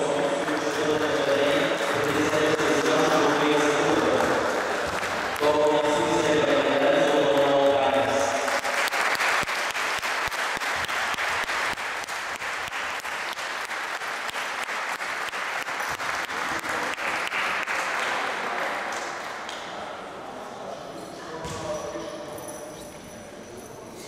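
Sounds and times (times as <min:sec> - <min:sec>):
group of people applauding: 0:00.0 - 0:19.6.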